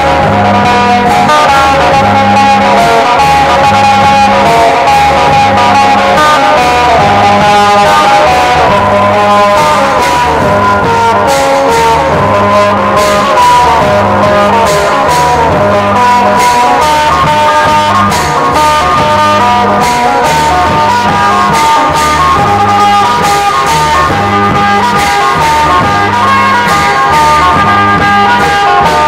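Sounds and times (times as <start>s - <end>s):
melody over bass and beat: 0.0s - 29.0s.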